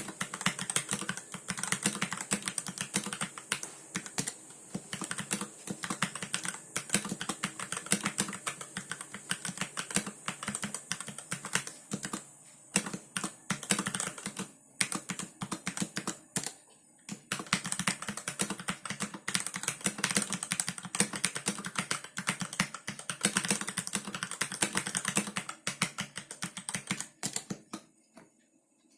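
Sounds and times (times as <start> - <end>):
mechanical keyboard typing clicks: 0.0 - 12.2, 12.8 - 27.9.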